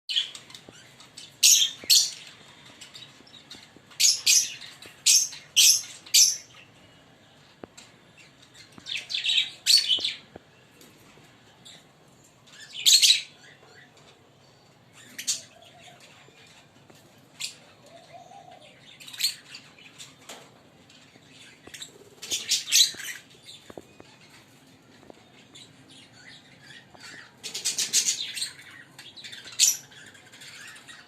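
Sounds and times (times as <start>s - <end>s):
lovebirds chirping: 0.1s - 31.0s.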